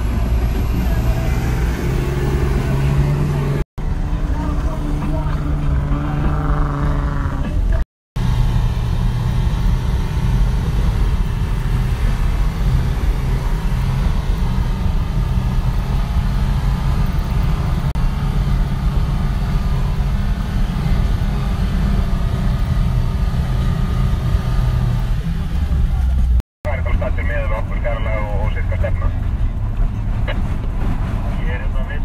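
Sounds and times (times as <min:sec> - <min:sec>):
vehicle engine drone from inside cabin: 0:00.0 - 0:32.0.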